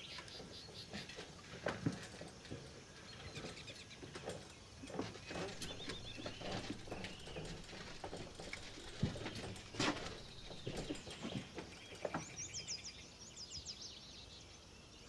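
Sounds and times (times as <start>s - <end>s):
bird chirps: 0.0s - 1.2s, 3.0s - 15.0s
footsteps: 0.0s - 12.4s
wheelchair creaking and knocking: 0.0s - 12.7s.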